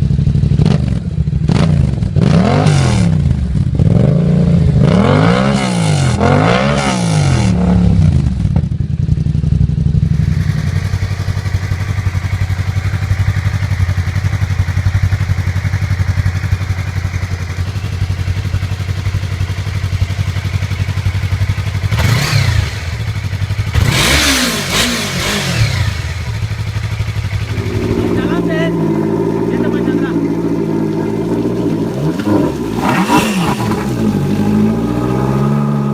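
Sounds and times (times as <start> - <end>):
motorcycle engine revving and idling: 0.0 - 35.9.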